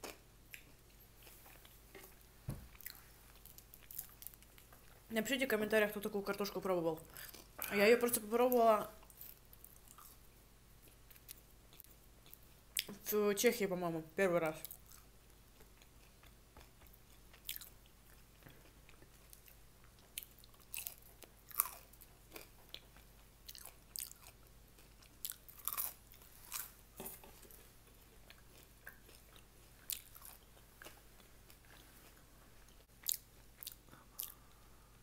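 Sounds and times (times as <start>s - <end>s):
person chewing and eating: 0.0s - 5.1s, 7.0s - 7.7s, 9.0s - 12.9s, 14.6s - 35.0s
faint low hum: 0.0s - 35.0s.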